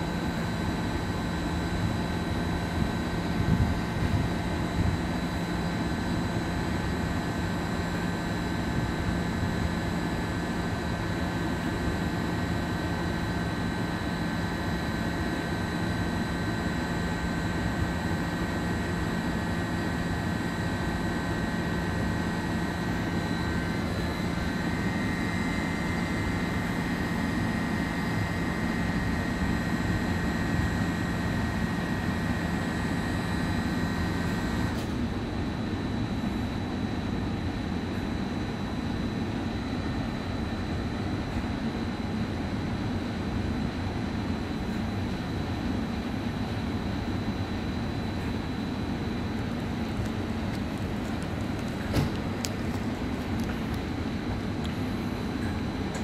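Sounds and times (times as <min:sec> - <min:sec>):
locomotive machinery drone: 0:00.0 - 0:40.8, 0:44.2 - 0:56.0.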